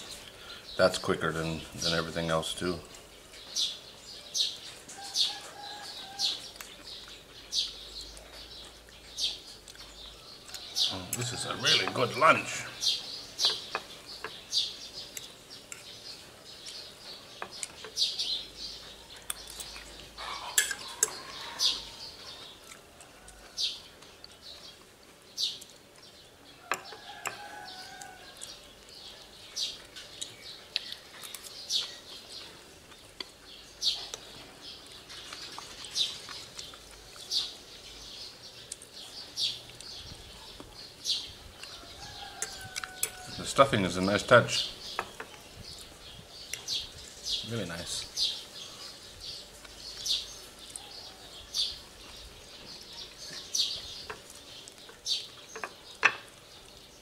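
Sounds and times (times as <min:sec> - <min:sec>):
birds chirping faintly: 0:00.0 - 0:57.0.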